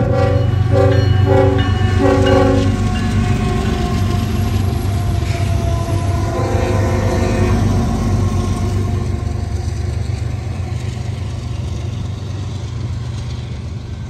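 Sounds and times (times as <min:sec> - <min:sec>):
diesel locomotives droning: 0:00.0 - 0:14.0
train cars rumbling on rails: 0:00.0 - 0:14.0.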